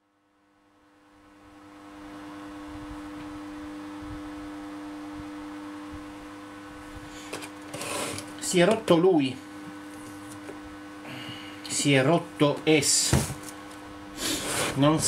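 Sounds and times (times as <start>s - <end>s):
electrical hum with pitched tone: 0.0s - 15.0s.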